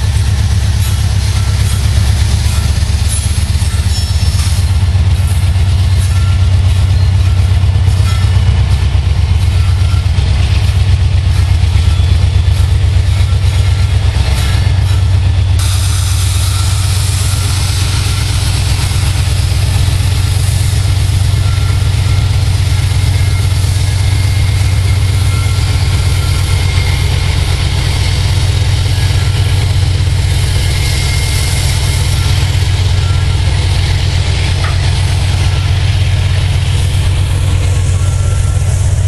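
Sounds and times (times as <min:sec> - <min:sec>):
locomotive engines droning: 0:00.0 - 0:39.0.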